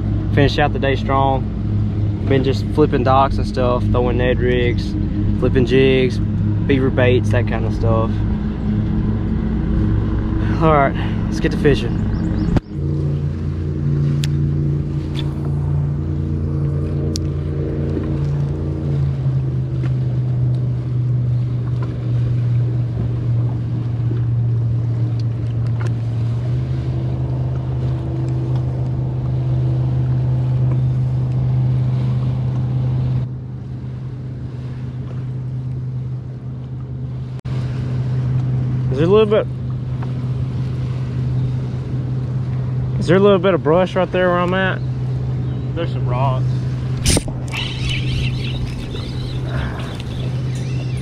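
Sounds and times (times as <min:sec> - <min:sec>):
outboard motor running: 0:00.0 - 0:51.0.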